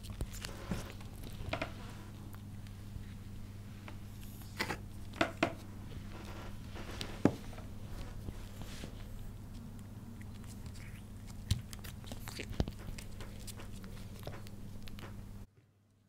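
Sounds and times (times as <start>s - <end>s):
steady low hum: 0.0s - 15.5s.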